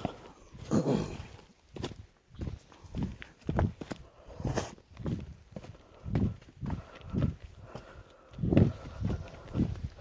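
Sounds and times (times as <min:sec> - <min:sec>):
footsteps dull thuds: 0:00.0 - 0:10.0.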